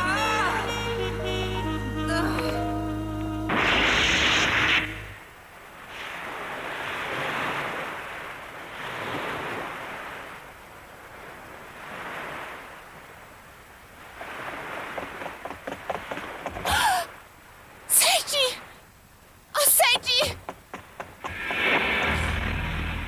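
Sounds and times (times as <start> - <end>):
waves washing: 3.5 - 18.9, 19.6 - 23.0.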